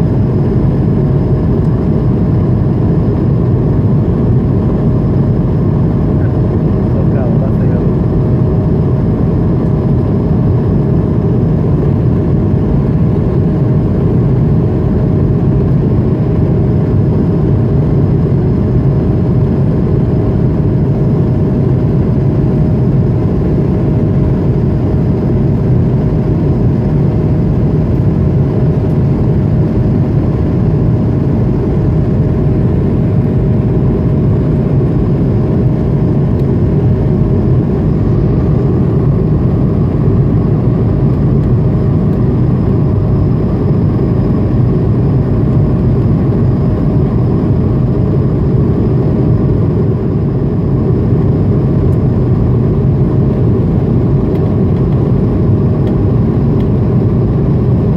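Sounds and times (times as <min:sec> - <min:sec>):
jet engine roar in cabin: 0:00.0 - 0:57.9.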